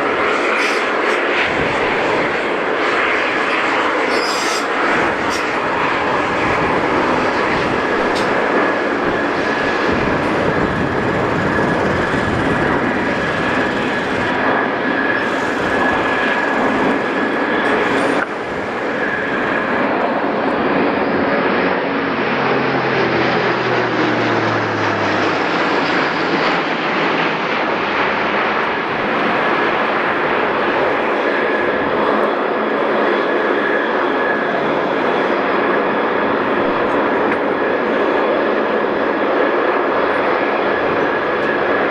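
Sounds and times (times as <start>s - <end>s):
aircraft engines passing: 0.0s - 41.9s.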